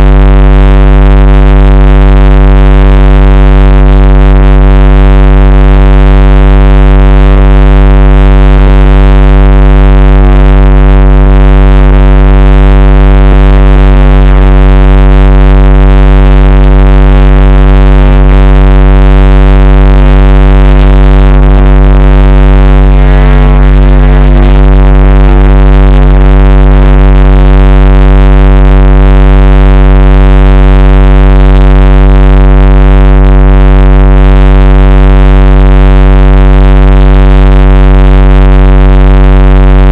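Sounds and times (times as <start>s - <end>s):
distorted electronic drone: 0.0s - 39.9s.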